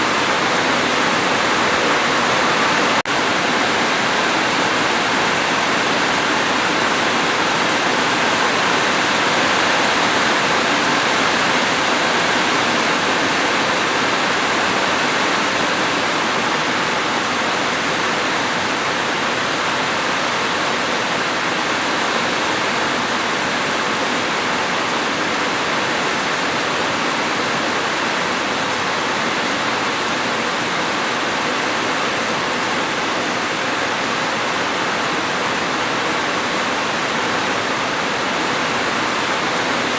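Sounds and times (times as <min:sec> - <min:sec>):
steady heavy rain: 0:00.0 - 0:39.9.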